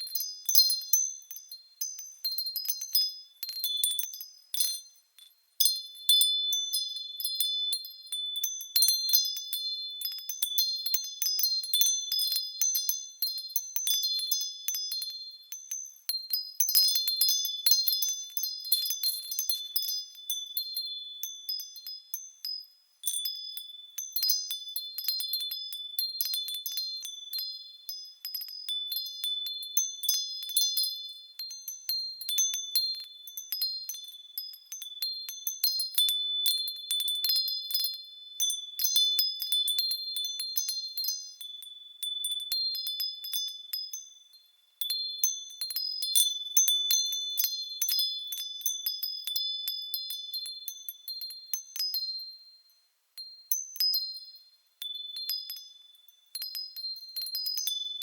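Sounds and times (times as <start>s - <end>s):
wind chimes tinkling: 0.0s - 58.0s.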